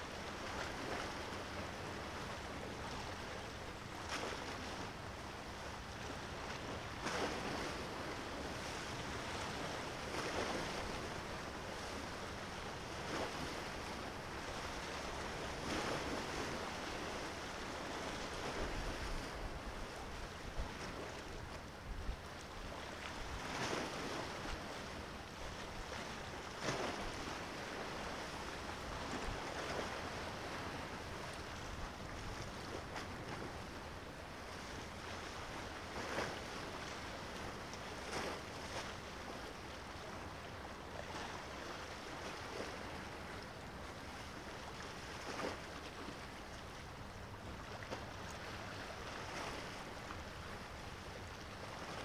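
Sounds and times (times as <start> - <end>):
small waves washing onto shore: 0.0 - 52.0.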